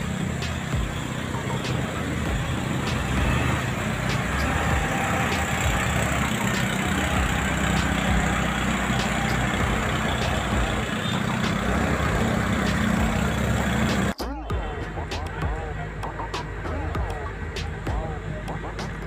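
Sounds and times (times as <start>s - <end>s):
road traffic noise: 0.0s - 19.0s
vehicle engines rumbling: 0.0s - 19.0s
wheel loader working: 0.0s - 19.0s.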